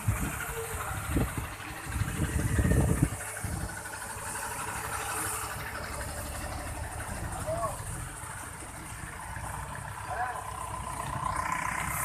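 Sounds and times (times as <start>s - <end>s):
diesel truck passing: 0.0s - 12.0s.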